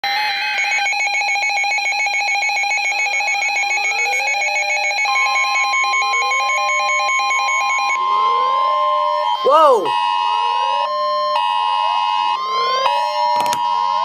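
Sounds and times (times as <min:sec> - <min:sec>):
steady alarm tone: 0:00.0 - 0:14.0.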